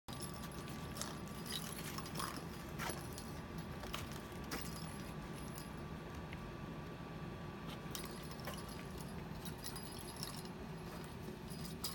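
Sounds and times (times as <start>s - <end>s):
small object clinking and jingling: 0.1s - 5.8s, 7.9s - 11.9s
steady low hum: 0.1s - 11.9s.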